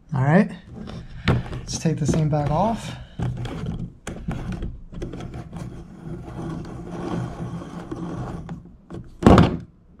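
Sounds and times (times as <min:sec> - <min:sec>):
metal threads scraping: 0:00.6 - 0:08.7.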